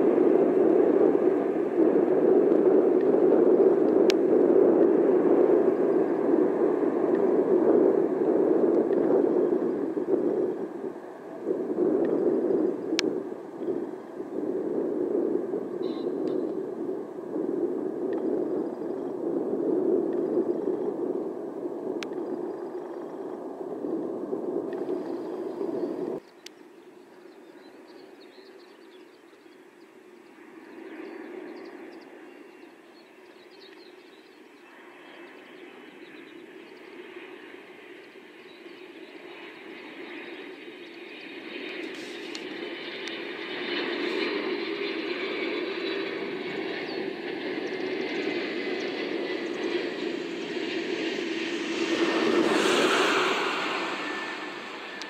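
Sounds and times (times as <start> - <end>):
distant jet engine whine: 0.0 - 55.0
jet engines at climb power: 0.0 - 55.0.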